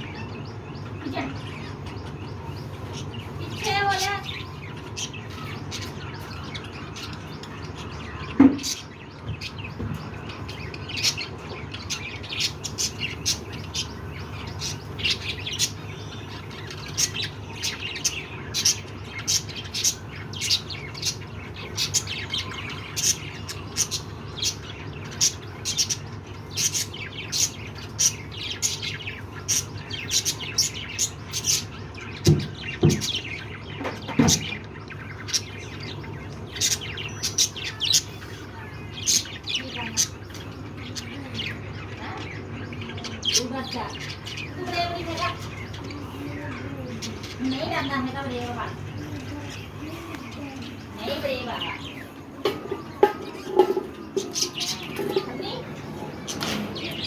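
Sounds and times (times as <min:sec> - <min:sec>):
budgerigars chirping: 0:00.0 - 0:57.0.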